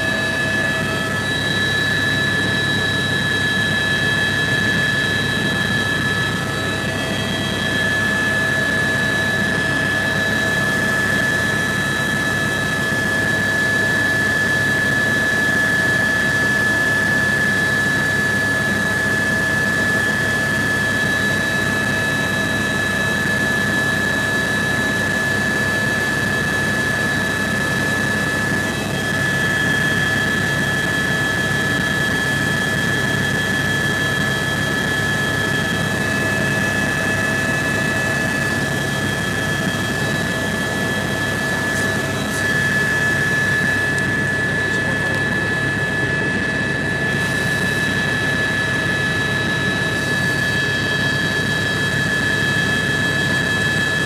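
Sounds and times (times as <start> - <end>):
engine and rotor rush: 0.0 - 54.0
helicopter turbine whine: 0.0 - 54.0.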